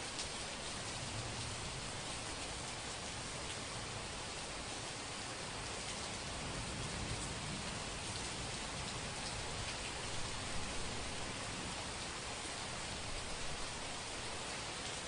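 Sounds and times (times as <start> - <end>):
heavy rain falling: 0.0 - 15.0
rain drops spattering: 0.0 - 15.0.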